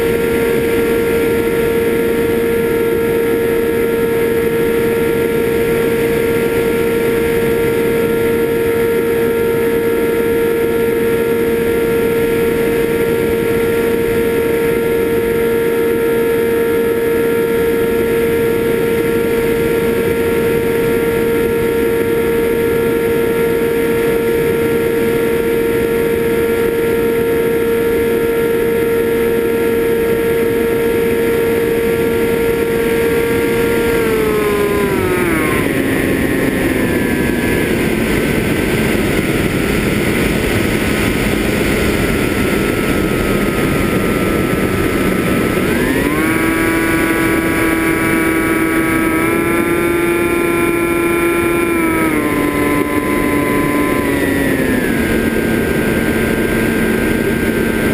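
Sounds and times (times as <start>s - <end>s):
electric motors whining: 0.0s - 57.9s.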